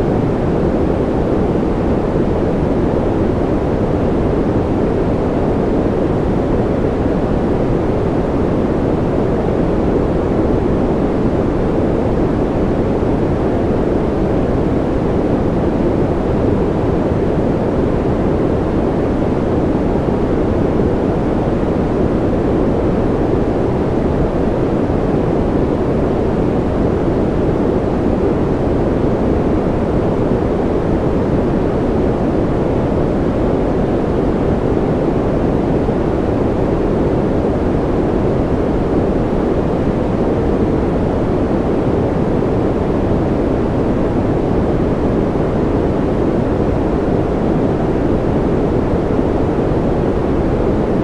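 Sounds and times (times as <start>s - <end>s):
steady white noise: 0.0s - 51.0s.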